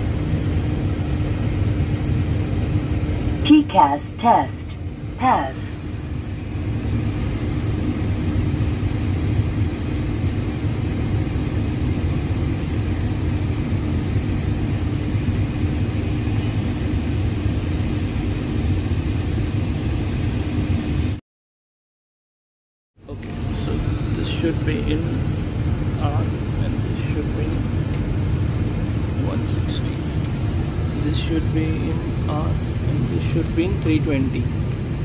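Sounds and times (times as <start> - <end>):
cockpit fans humming: 0.0 - 21.2, 23.0 - 35.0.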